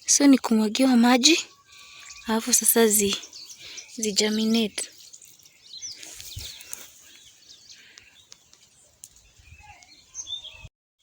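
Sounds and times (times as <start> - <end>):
birds chirping and calling: 0.0 - 10.7.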